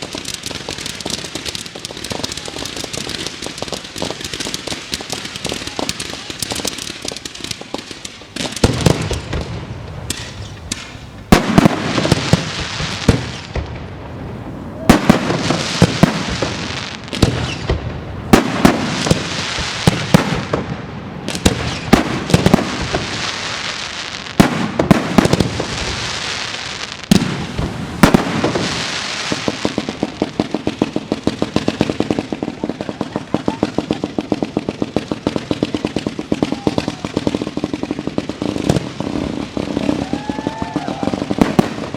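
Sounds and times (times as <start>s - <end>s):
fireworks bangs: 0.0s - 41.9s
fireworks crackling and hissing: 0.0s - 41.9s.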